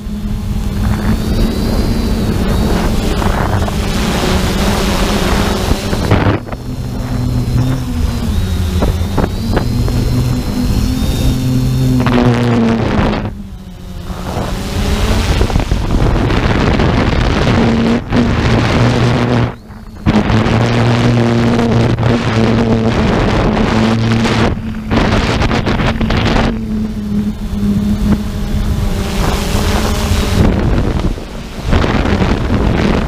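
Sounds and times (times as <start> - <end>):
motor humming steadily: 0.0 - 33.0
wind noise on microphone: 0.0 - 33.0.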